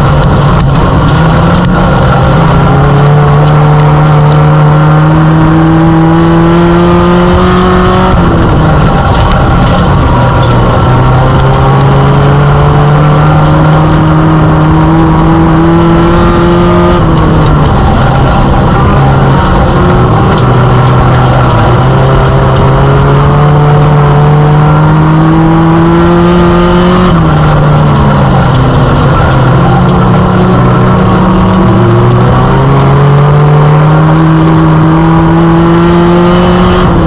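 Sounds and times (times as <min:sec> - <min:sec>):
race car engine running hard: 0:00.0 - 0:37.0.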